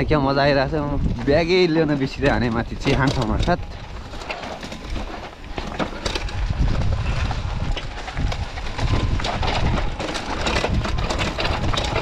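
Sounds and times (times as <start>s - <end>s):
wind rumbling on microphone: 0.0s - 12.0s
bike tyres knocking over stones: 1.0s - 12.0s.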